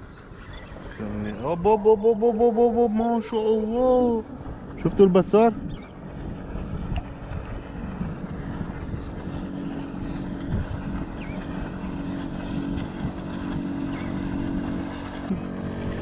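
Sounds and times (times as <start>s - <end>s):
boat motor humming: 0.0s - 16.0s
water noise: 0.0s - 16.0s
wind: 0.0s - 16.0s.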